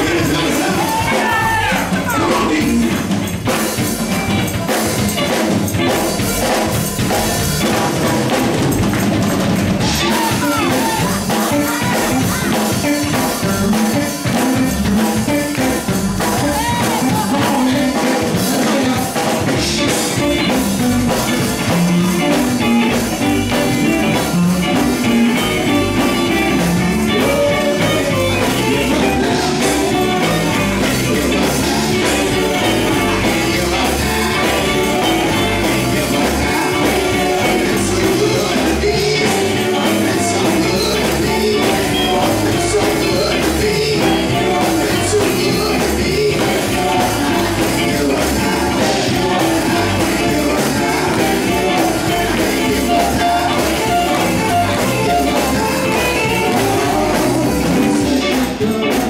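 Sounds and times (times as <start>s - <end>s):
drum kit: 0.0s - 59.0s
electric guitar: 0.0s - 59.0s
gospel group performing: 0.0s - 59.0s
singing voices: 0.0s - 59.0s.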